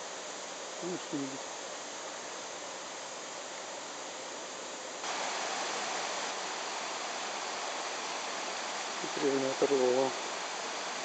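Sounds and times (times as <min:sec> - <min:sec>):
outdoor hiss: 0:00.0 - 0:11.0
stream running over rocks: 0:00.0 - 0:11.0.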